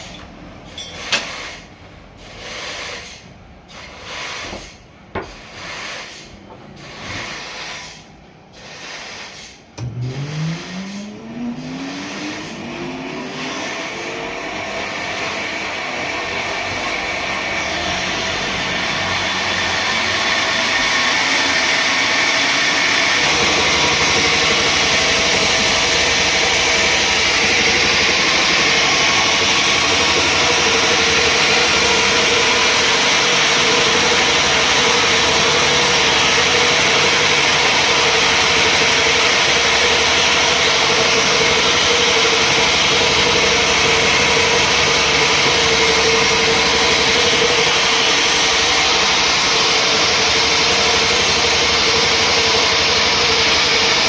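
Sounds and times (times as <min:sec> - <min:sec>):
sawmill machinery running: 0:09.8 - 0:54.0.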